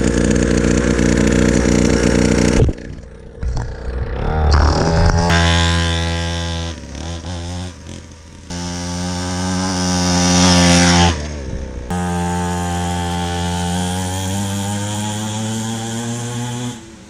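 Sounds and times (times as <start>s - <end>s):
two-stroke motorbike engine: 0.0s - 17.0s.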